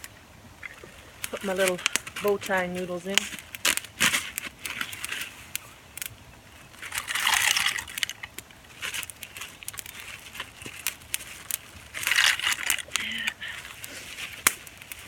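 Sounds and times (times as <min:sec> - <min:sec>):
campfire crackling and popping: 0:00.0 - 0:15.0
crunching rustles: 0:00.0 - 0:15.0.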